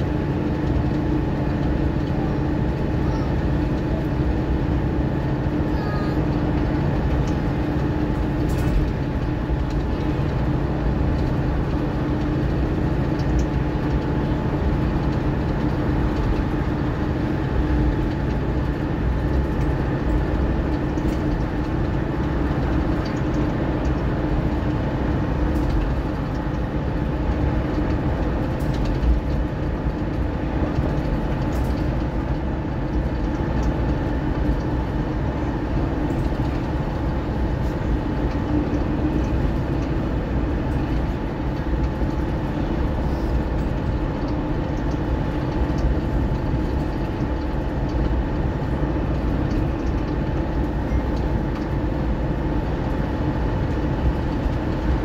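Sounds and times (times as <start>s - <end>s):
bus diesel engine hum: 0.0s - 55.0s
road noise: 0.0s - 55.0s.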